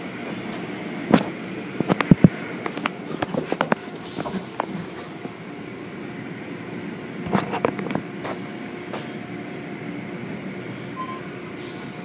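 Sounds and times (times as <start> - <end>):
car wash machinery rumbling: 0.0 - 12.0.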